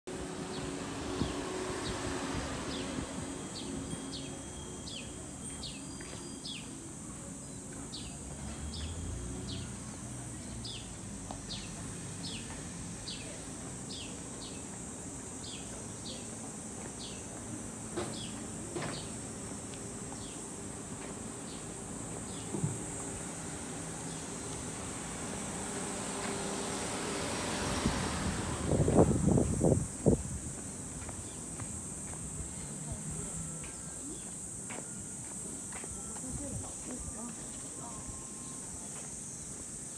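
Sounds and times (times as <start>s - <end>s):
cicadas buzzing: 0.1s - 39.9s.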